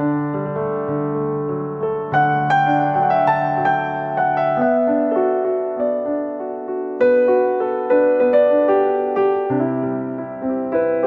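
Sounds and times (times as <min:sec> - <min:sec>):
gentle electric piano melody: 0:00.0 - 0:11.0.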